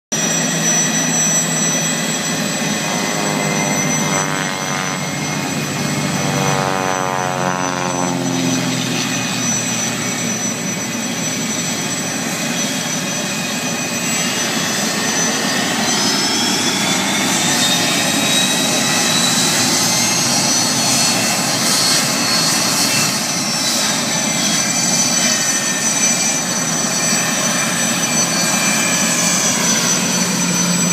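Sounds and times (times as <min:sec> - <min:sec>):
turbine engines whining: 0:00.1 - 0:30.9
engine spooling up: 0:00.2 - 0:30.9.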